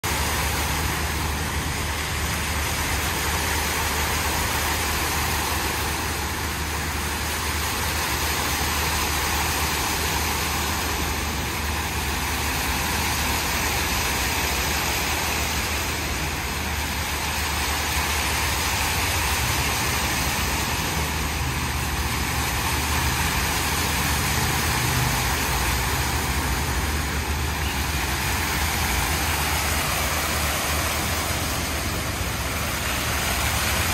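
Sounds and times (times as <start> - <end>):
fountain jets splashing into pool: 0.0 - 33.9.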